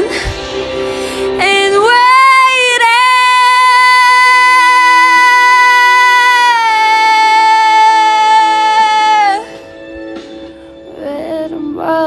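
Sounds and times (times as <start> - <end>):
backing track: 0.0 - 12.0.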